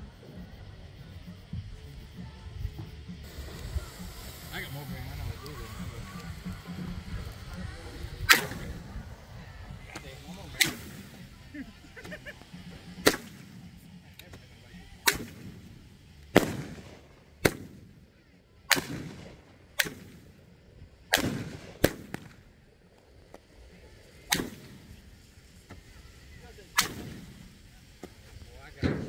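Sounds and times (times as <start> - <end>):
fireworks bangs: 2.5 - 29.0.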